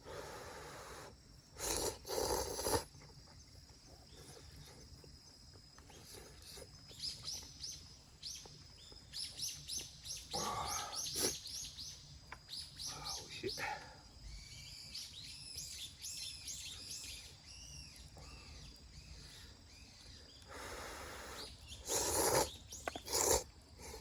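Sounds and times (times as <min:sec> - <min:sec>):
small bird chirping: 0:00.9 - 0:24.0.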